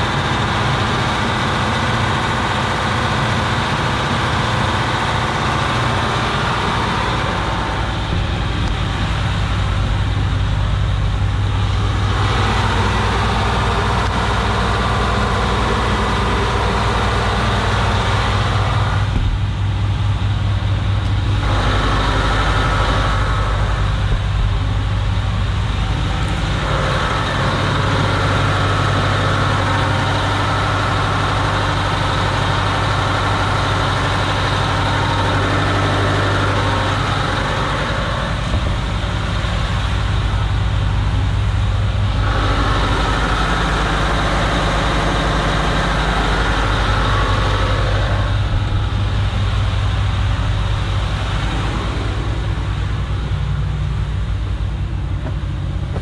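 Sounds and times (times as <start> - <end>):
diesel engine droning: 0.0 - 56.0
rushing noise: 6.0 - 56.0.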